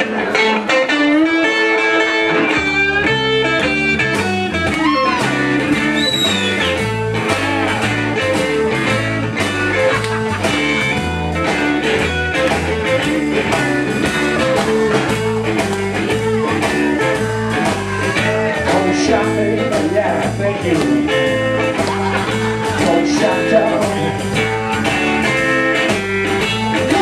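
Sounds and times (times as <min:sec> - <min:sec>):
bass guitar: 0:00.0 - 0:27.0
drums: 0:00.0 - 0:27.0
electric guitar with bent notes: 0:00.0 - 0:27.0.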